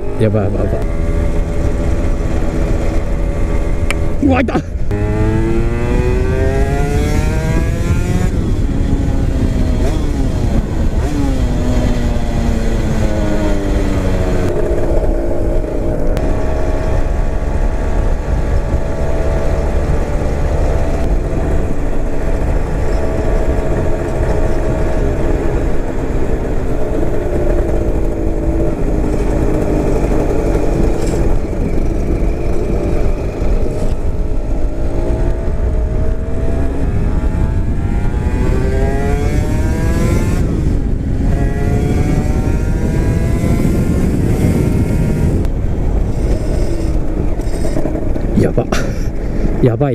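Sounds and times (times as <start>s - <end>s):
two-stroke motorcycle engine: 0.0s - 49.6s
wind noise rushing: 0.0s - 49.9s.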